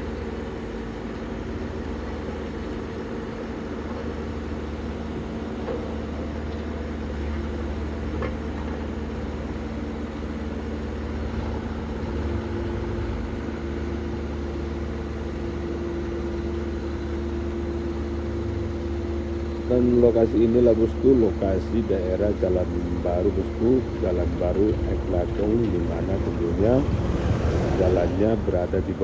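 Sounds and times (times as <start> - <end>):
heavy machinery engine running: 0.0 - 29.0.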